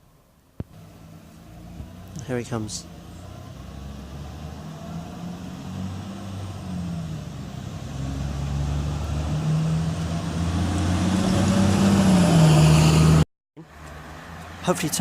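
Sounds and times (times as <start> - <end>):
bus engine running: 0.7 - 13.2.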